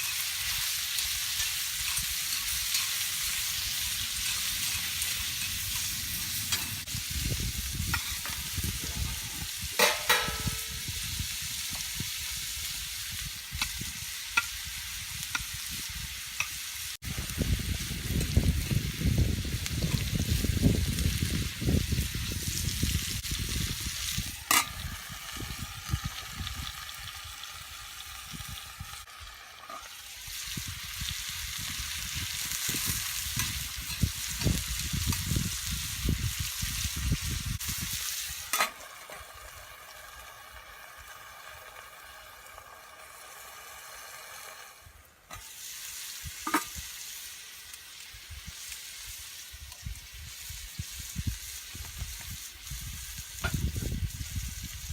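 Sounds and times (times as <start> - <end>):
food sizzling in a pan: 0.0 - 54.9.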